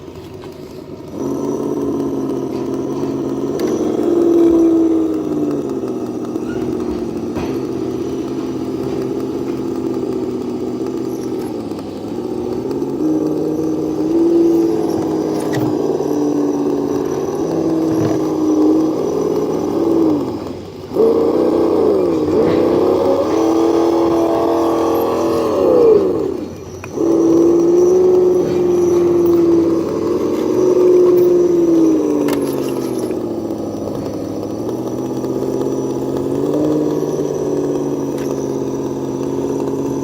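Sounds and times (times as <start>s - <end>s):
simulated engine sound from speaker: 0.0s - 40.0s.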